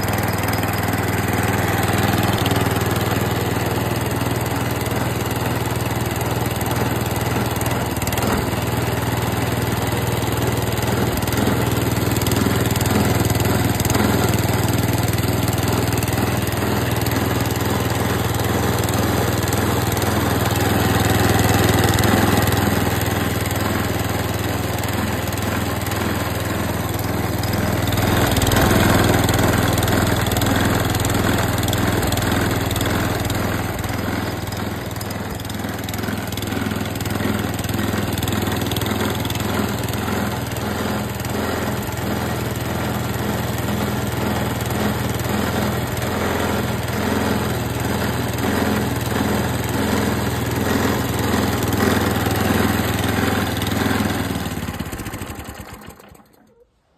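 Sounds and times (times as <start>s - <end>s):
lawn mower engine running: 0.0s - 56.6s.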